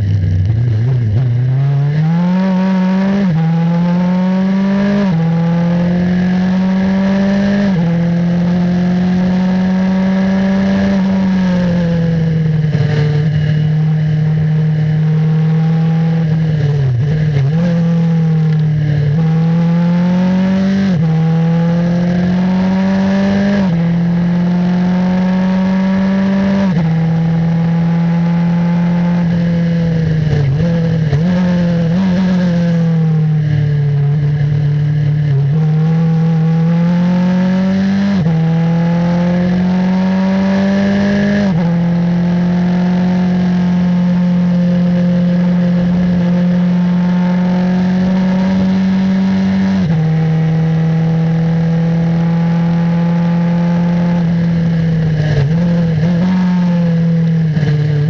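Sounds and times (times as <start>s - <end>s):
engine throttle blips: 0.0s - 58.0s
race car engine accelerating: 0.0s - 58.0s.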